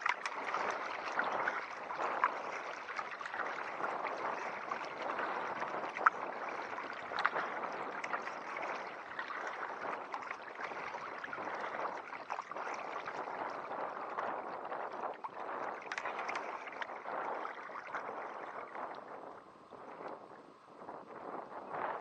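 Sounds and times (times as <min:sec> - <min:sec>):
water splashing against kayak: 0:00.0 - 0:22.0.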